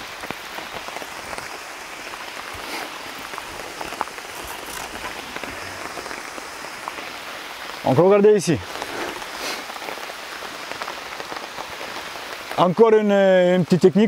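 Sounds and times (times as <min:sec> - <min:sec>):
rain falling on foliage: 0:00.0 - 0:14.0.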